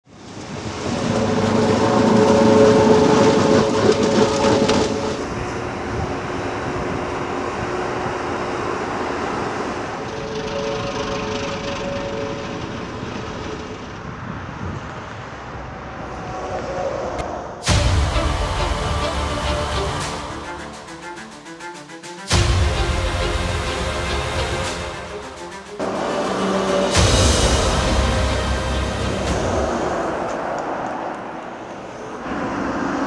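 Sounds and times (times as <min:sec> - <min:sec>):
construction machines diesel engines: 0:00.1 - 0:33.0.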